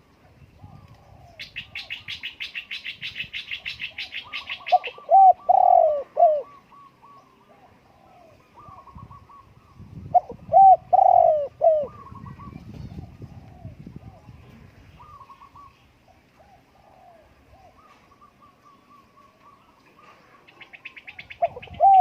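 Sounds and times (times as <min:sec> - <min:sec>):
small birds chirping: 0:00.4 - 0:22.0
dove cooing: 0:00.6 - 0:22.0.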